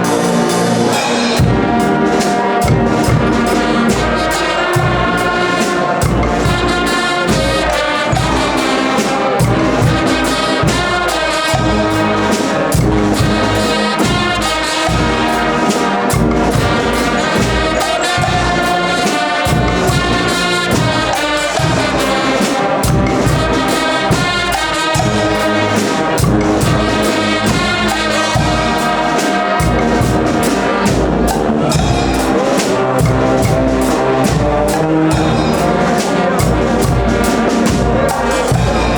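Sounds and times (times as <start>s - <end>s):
steady drum beat: 0.0s - 38.9s
trumpets and trombones: 0.0s - 38.9s.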